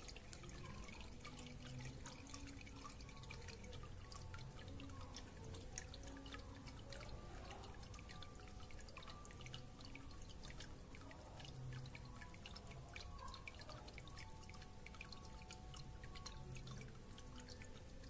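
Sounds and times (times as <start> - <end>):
faint liquid dripping into bucket: 0.0 - 18.0
low steady hum: 0.0 - 18.0.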